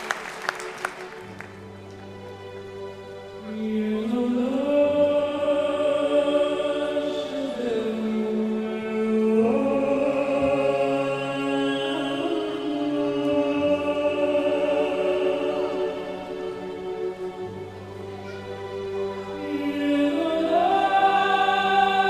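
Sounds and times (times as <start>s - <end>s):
chant-like vocal notes: 3.4s - 22.0s.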